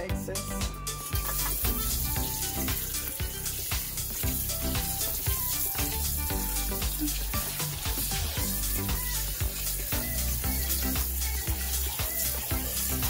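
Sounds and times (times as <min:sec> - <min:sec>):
background music with beat: 0:00.0 - 0:13.0
sink sprayer hissing water: 0:00.5 - 0:13.0.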